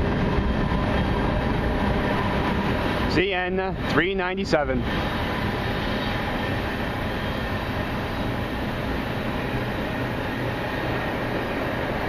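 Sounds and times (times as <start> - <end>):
train rumble with low hum: 0.0 - 12.0.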